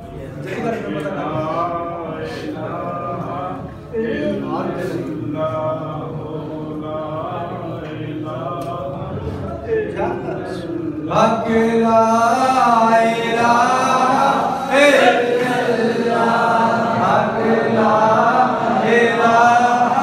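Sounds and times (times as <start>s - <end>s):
men chanting together: 0.9s - 20.0s.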